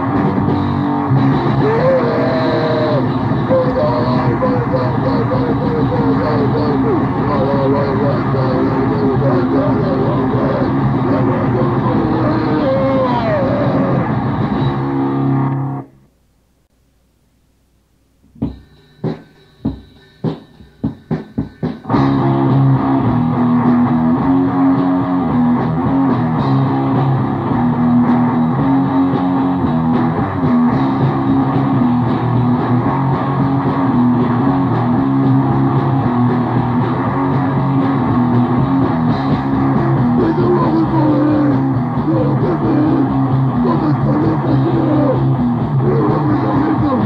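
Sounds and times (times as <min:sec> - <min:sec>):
grindcore guitar and drums: 0:00.0 - 0:15.9, 0:18.2 - 0:47.0.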